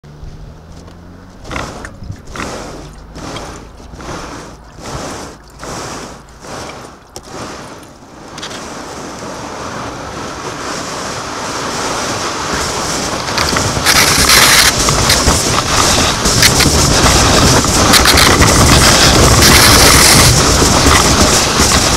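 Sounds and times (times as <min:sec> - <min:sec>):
wind buffeting microphone: 0:00.1 - 0:21.9
kayak hull scraping on snow: 0:01.4 - 0:21.9.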